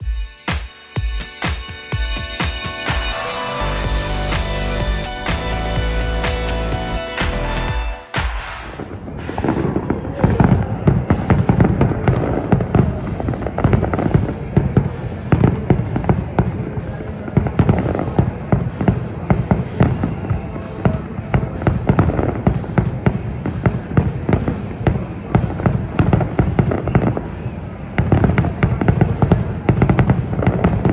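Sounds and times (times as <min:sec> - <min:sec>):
fireworks bangs and crackles: 0:02.2 - 0:30.9.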